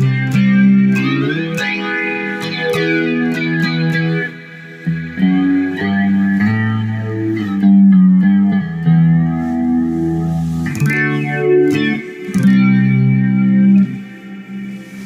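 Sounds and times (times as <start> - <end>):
flanged electric guitar: 0.0 - 15.0.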